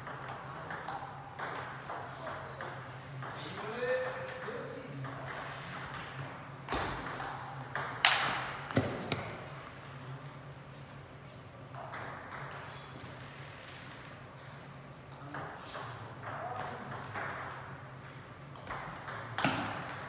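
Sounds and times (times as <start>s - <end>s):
table tennis ball clacking: 0.0s - 10.7s, 13.7s - 20.0s.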